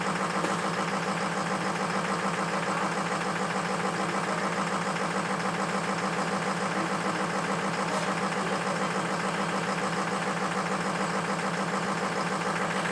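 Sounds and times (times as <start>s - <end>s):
truck engine idling: 0.0s - 12.9s.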